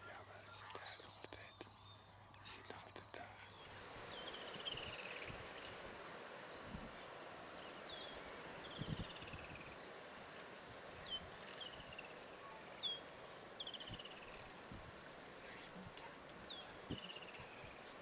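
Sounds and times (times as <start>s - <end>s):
background hiss: 0.0s - 18.0s
bird calling: 0.0s - 18.0s.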